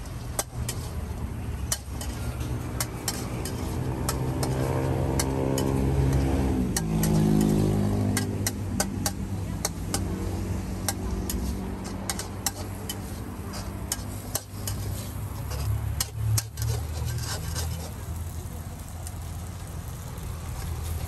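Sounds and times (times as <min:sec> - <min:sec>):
metal spatula scraping wok: 0:00.0 - 0:21.0.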